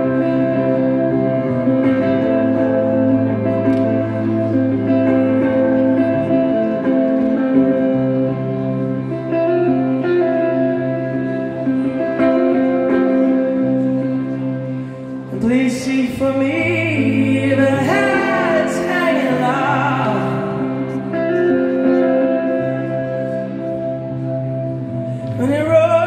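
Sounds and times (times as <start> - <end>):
electric guitar: 0.0 - 26.0
keyboard chords: 0.0 - 26.0.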